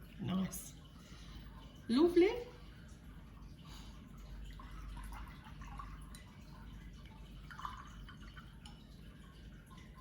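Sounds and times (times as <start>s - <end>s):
aquarium water trickling and bubbling: 0.0s - 10.0s.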